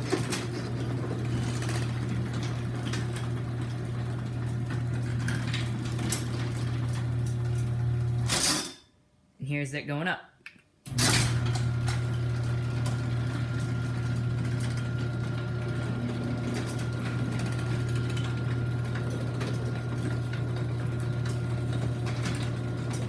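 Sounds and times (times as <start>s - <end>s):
garage door opener motor humming: 0.0s - 8.4s, 10.9s - 23.0s.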